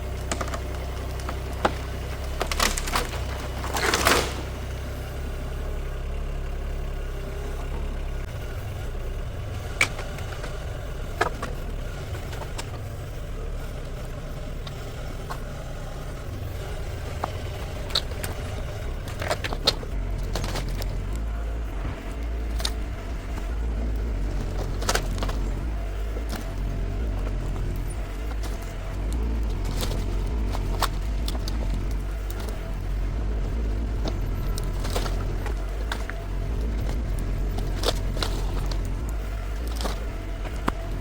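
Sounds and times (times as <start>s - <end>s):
excavator diesel engine running: 0.0s - 41.0s
wood cracking: 0.0s - 41.0s.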